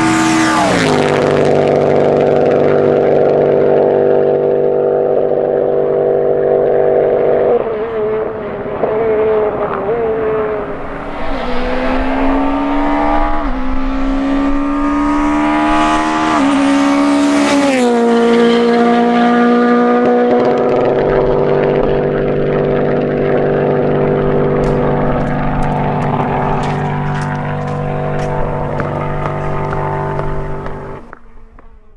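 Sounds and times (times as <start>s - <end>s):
rally car engine passing by: 0.0s - 31.9s.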